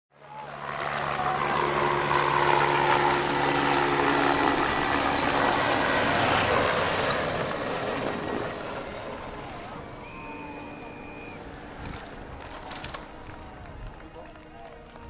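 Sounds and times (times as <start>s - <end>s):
helicopter flying past: 0.1s - 15.0s.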